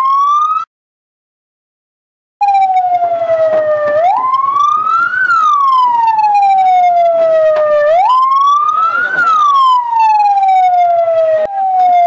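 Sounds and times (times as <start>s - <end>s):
electronic siren wailing: 0.0s - 0.7s, 2.4s - 12.0s.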